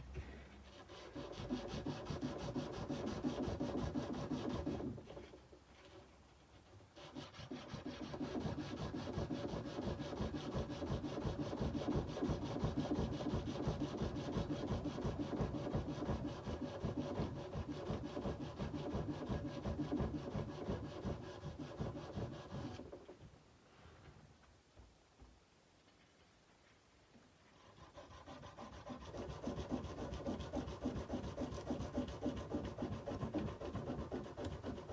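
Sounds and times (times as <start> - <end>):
sandpaper rubbing on steel: 0.6 - 5.3, 6.6 - 22.9, 27.6 - 34.9.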